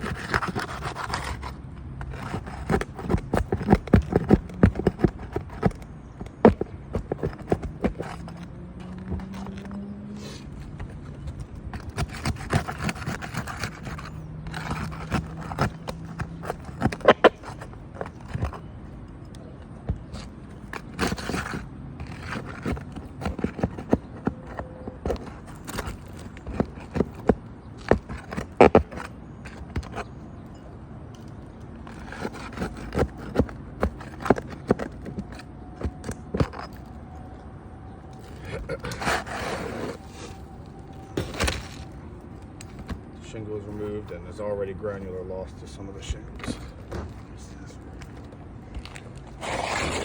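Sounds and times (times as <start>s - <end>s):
tool scraping under roof shingles: 0.0s - 18.7s, 19.9s - 30.2s, 31.2s - 37.3s, 38.1s - 44.3s, 48.0s - 50.0s.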